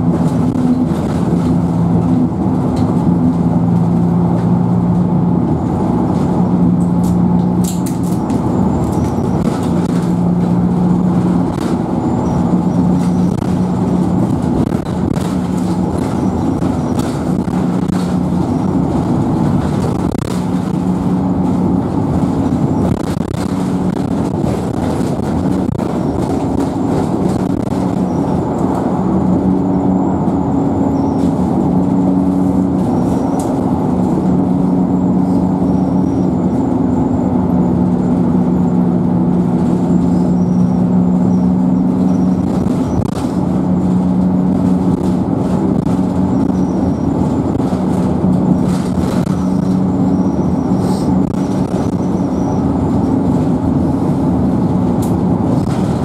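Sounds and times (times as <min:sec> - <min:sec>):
bus engine drone: 0:00.0 - 0:56.0
interior clicks and rattles: 0:00.0 - 0:56.0
tyre and road noise: 0:00.0 - 0:56.0.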